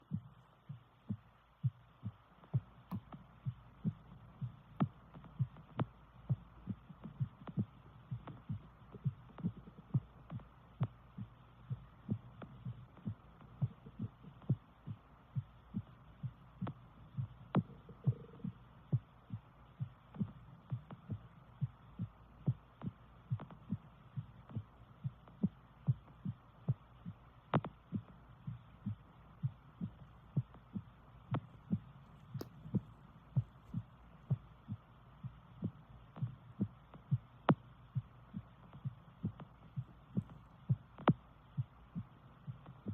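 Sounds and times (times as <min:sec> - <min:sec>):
faint steady hum: 0:00.0 - 0:42.9
heartbeat thumps: 0:00.0 - 0:42.9.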